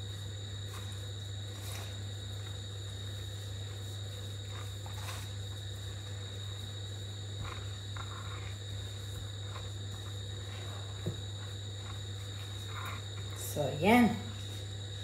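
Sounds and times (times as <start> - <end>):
chicken rustling in flour: 0.1 - 13.5.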